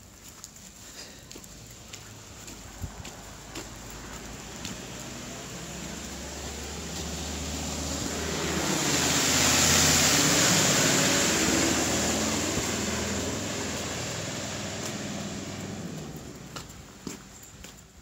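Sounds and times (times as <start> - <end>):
engine hum: 0.0 - 18.0
tyres hissing on snow: 0.6 - 16.0.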